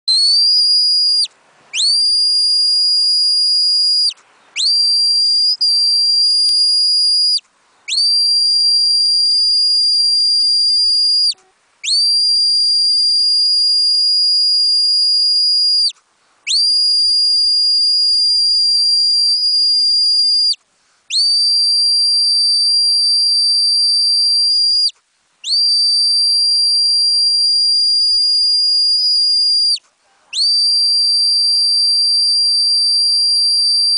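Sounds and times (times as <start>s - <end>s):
high-pitched whistle blasts: 0.1s - 29.8s, 30.4s - 33.9s.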